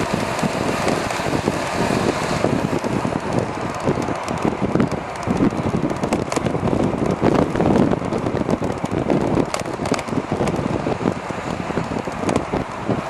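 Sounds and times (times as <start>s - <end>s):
sharp clicks and rattles: 0.0s - 13.0s
wind buffeting microphone: 0.0s - 13.0s.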